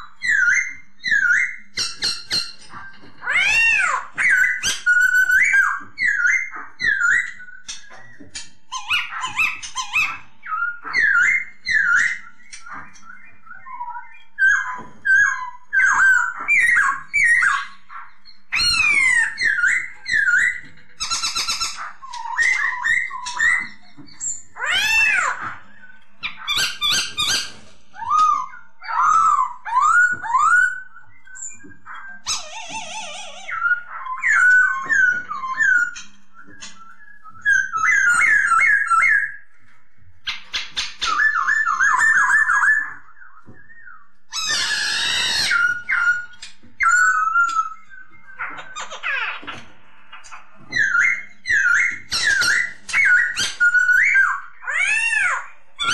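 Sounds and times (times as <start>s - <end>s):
bird singing whistled phrases: 0.0s - 39.5s, 40.3s - 55.9s.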